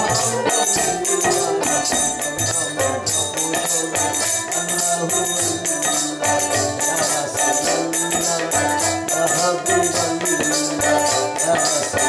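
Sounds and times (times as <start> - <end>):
jingling percussion: 0.0 - 12.0
plucked stringed instrument: 0.0 - 12.0.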